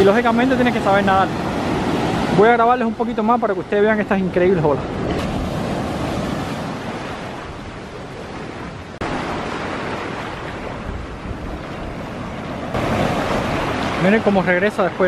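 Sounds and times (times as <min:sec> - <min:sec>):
ocean waves breaking: 0:00.0 - 0:15.0
surf washing over sand: 0:00.0 - 0:15.0.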